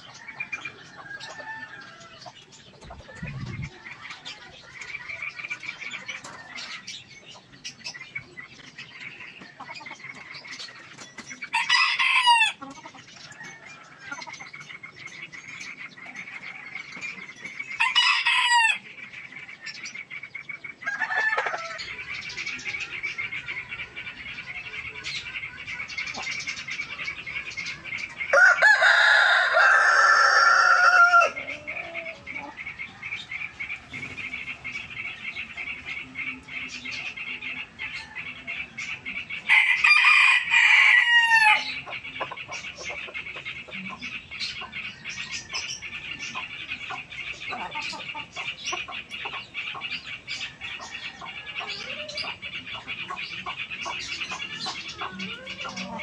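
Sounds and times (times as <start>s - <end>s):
chickens calling: 0.0s - 56.0s.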